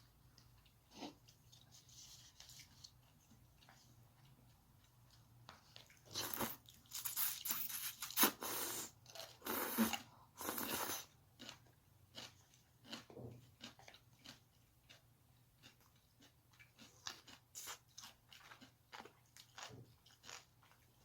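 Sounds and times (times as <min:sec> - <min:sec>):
crunching and chewing food: 0:00.0 - 0:21.0.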